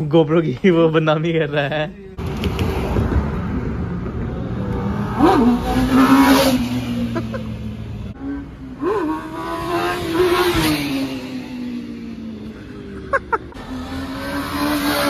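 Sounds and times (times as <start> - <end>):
vehicle engine revving: 2.2 - 15.0.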